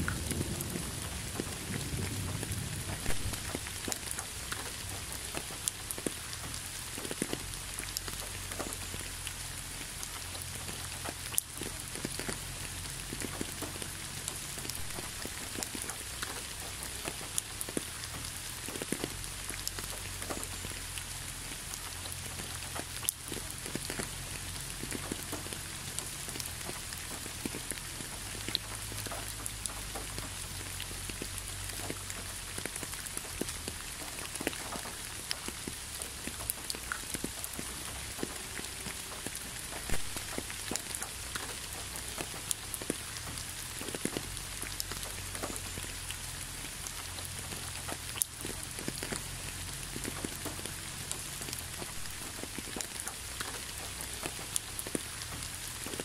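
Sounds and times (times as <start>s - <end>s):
rain falling on leaves: 0.0s - 56.0s
raindrops landing close by: 0.0s - 56.0s.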